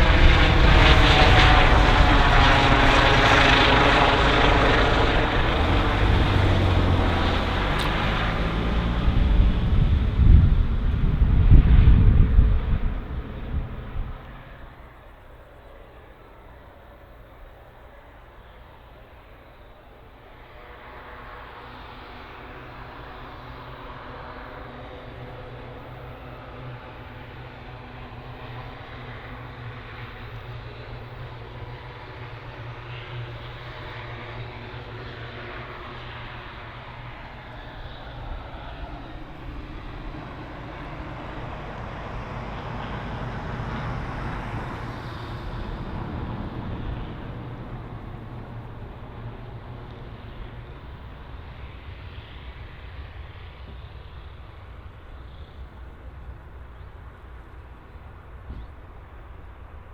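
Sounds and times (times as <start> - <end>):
airliner engines passing: 0.0 - 59.9.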